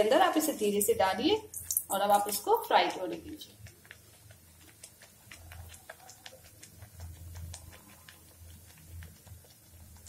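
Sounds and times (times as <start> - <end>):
dough deep-frying in oil: 0.0 - 10.0.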